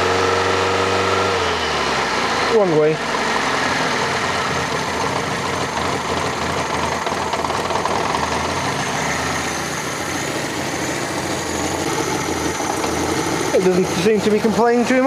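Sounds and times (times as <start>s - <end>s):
car engine idling: 1.2s - 15.0s.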